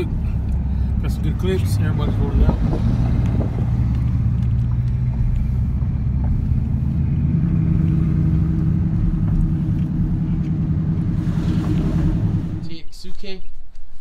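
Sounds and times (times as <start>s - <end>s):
car engine droning: 0.0s - 12.8s.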